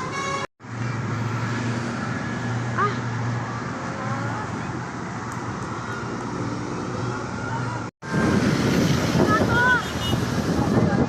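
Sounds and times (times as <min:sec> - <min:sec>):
vehicles passing: 0:00.0 - 0:11.0.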